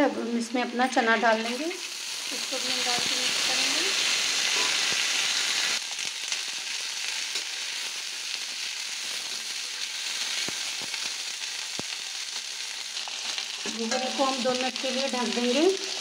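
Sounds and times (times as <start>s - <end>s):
chickpeas sizzling in oil: 0.6s - 16.0s.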